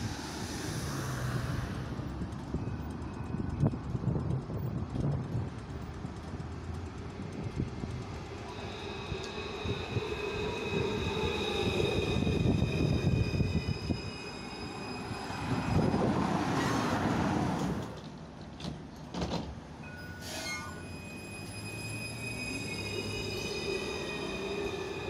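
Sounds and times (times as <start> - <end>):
tram electric drive whining: 0.0 - 25.0.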